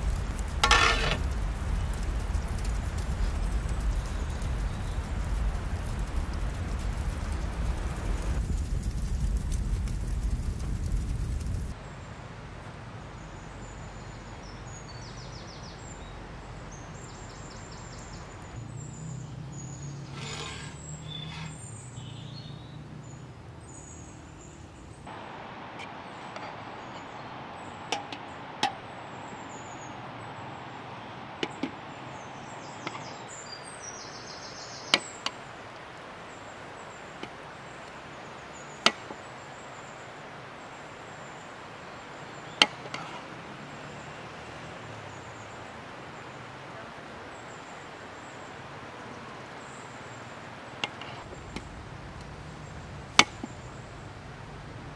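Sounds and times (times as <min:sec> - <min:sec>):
outdoor background hiss: 0:00.0 - 0:54.9.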